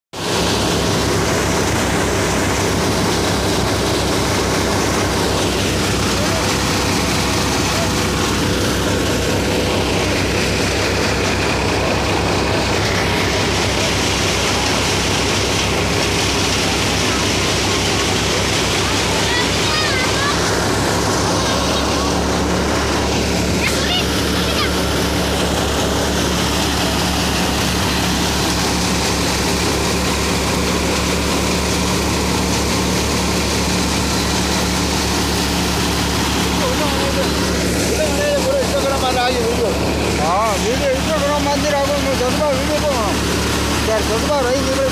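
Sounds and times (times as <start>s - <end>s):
grain thresher running: 0.1s - 44.9s
tractor diesel engine under load: 0.1s - 44.9s.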